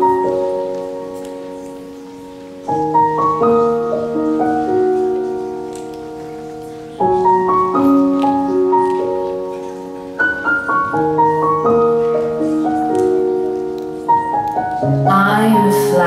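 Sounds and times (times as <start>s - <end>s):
slow solo piano: 0.0s - 15.9s.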